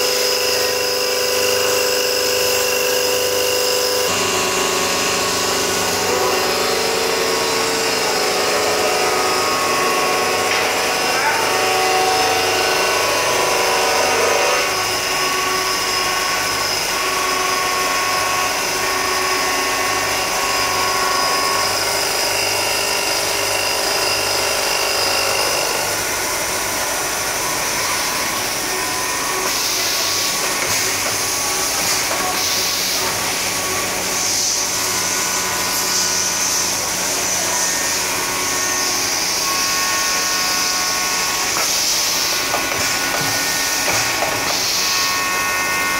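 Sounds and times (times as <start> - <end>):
milling machine whine: 0.0 - 45.9.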